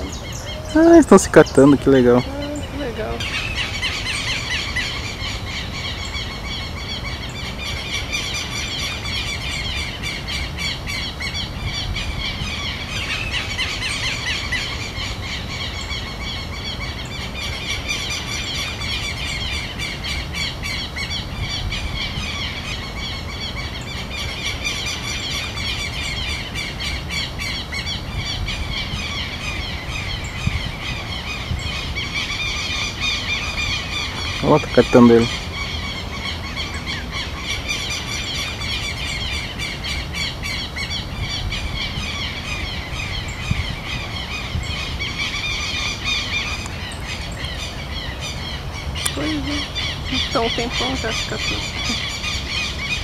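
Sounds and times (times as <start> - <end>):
birds squeaky calls: 0.0 - 53.0.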